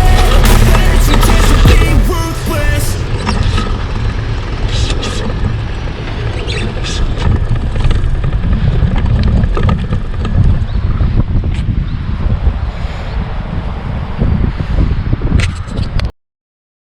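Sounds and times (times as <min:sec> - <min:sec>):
road rumble: 0:00.0 - 0:16.1
wind buffeting microphone: 0:01.2 - 0:16.1.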